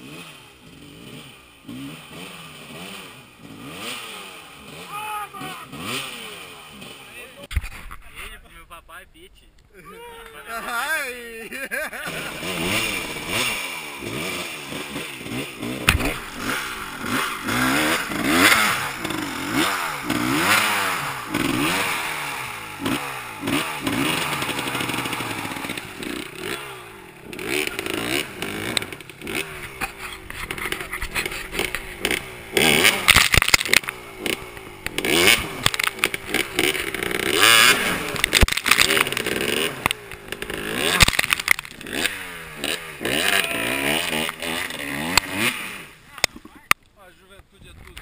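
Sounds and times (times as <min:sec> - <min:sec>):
dirt bike engine revving: 0:00.0 - 0:08.3, 0:10.4 - 0:46.7.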